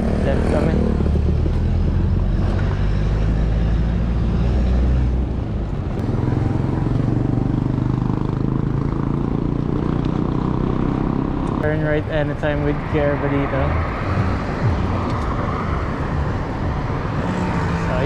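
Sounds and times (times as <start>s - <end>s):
road traffic: 0.0s - 18.0s
vehicle engine humming: 0.0s - 18.0s.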